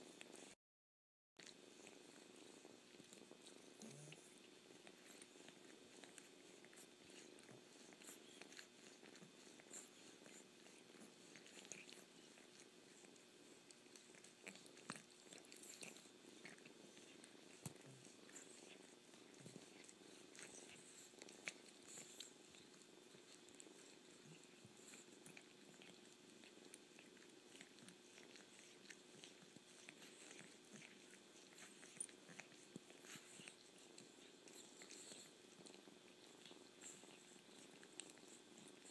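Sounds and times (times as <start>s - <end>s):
cat licking and slurping: 1.4s - 38.9s
cat purring: 1.4s - 38.9s.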